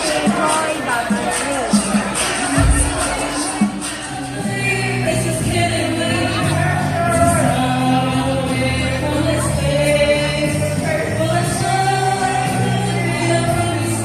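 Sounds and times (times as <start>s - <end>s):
music with singing voices: 0.0s - 14.0s.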